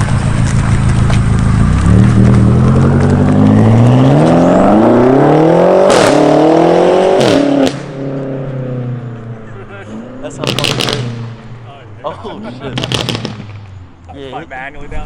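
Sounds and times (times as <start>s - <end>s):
exhaust cracks on upshifts: 0.0s - 8.5s, 9.2s - 14.2s
car engine accelerating: 0.0s - 14.2s.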